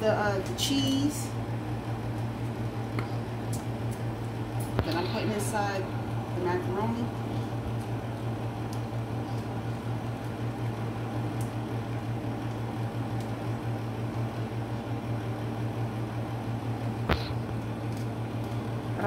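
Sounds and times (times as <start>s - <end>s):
motor hum with fan hiss: 0.0s - 19.0s.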